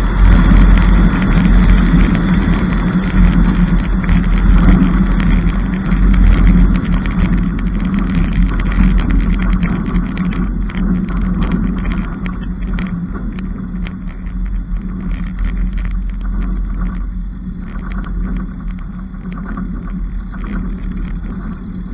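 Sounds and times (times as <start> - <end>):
sharp ticks: 0.0 - 21.6
airplane engine and propeller idling: 0.0 - 21.9.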